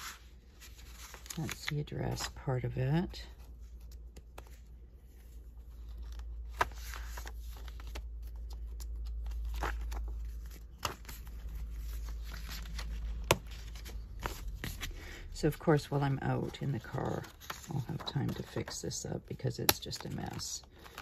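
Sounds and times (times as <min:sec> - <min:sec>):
paper rustling: 0:00.0 - 0:19.0.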